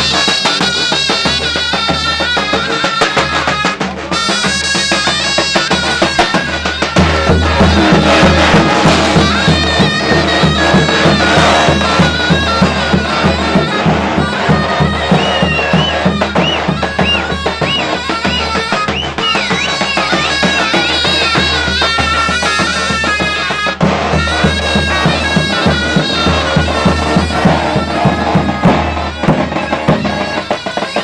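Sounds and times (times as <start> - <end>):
zurna reedy melody: 0.0 - 31.0.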